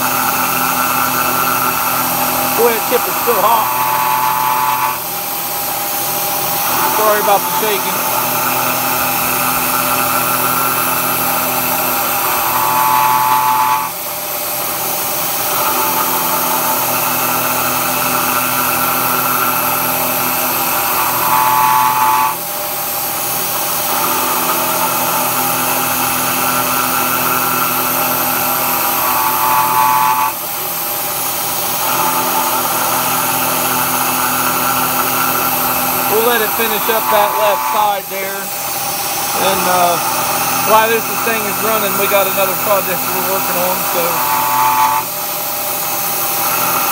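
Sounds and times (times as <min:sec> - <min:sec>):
milling machine cutting steel: 0:00.0 - 0:46.9.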